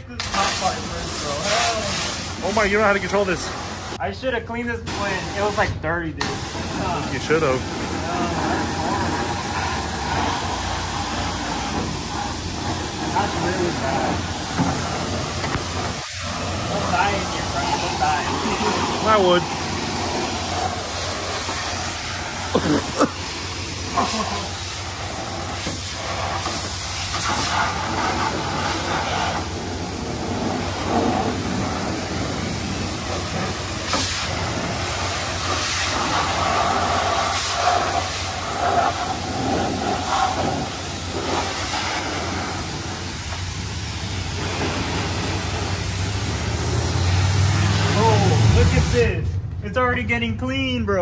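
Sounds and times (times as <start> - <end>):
high-pressure water spraying: 0.0 - 4.1, 4.7 - 49.2.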